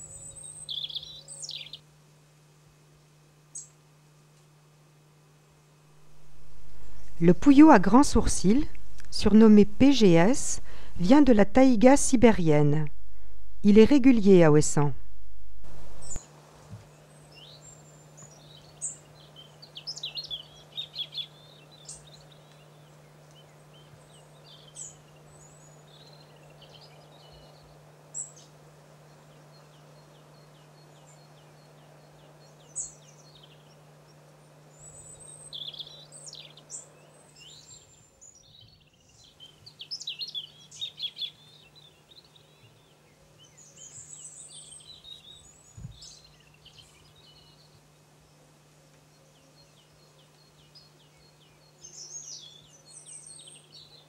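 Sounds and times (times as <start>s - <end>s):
songbirds chirping: 0.0s - 1.8s, 6.0s - 16.2s, 16.8s - 54.0s
faint low hum: 5.9s - 54.0s.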